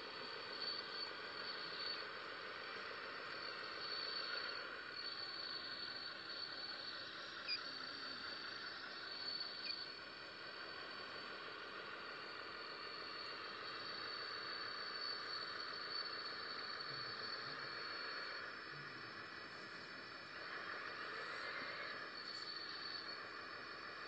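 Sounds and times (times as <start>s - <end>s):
electric motor and pump whine: 0.0s - 24.0s.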